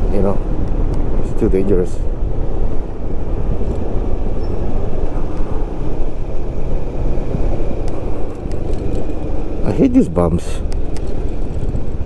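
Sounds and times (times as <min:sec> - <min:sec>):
motorbike engine: 0:00.0 - 0:12.0
road noise: 0:00.0 - 0:12.0
wind rumble on microphone: 0:00.0 - 0:12.0.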